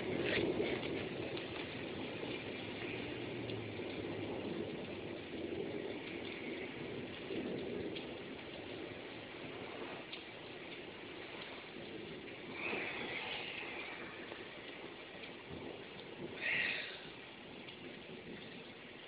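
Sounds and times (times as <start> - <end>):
raindrops ticking: 0.0 - 19.0
steady heavy rain: 0.0 - 19.0.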